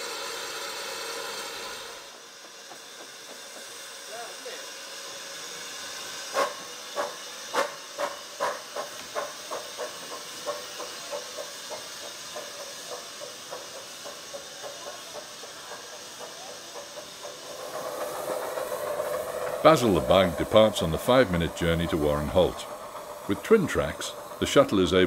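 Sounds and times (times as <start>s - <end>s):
hiss of steam: 0.0s - 25.0s
steam locomotive chuffing: 0.0s - 25.0s.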